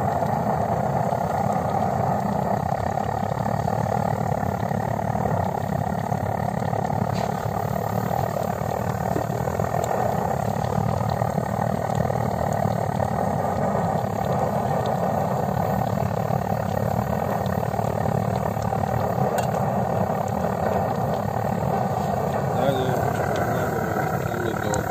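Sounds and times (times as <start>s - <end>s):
blowtorch burner rushing: 0.0s - 24.9s
faint crackles: 0.0s - 24.9s.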